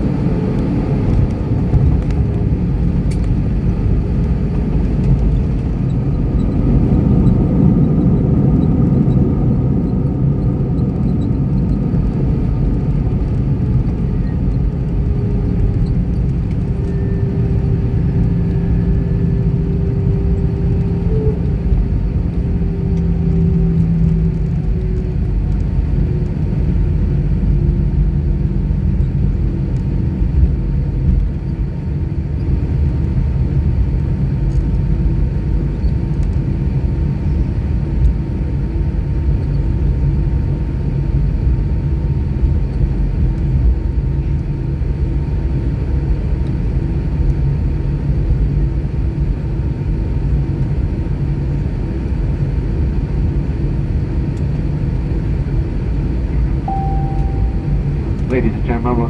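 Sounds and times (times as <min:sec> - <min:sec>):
aircraft cabin rumble: 0:00.0 - 0:59.0
engine hum sinking in pitch: 0:00.0 - 0:59.0.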